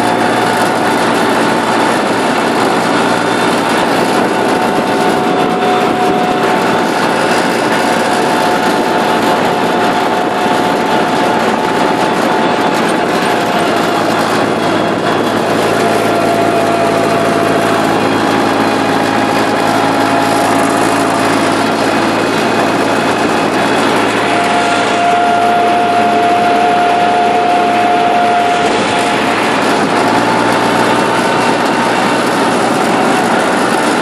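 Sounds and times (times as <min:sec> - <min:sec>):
thin high whine: 0:00.0 - 0:34.0
tractor diesel engine drone: 0:00.0 - 0:34.0.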